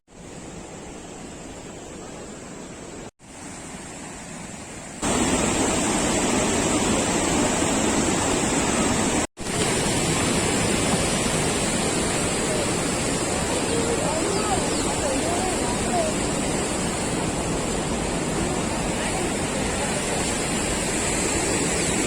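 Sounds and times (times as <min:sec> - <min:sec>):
waterfall rushing: 0:00.1 - 0:22.0.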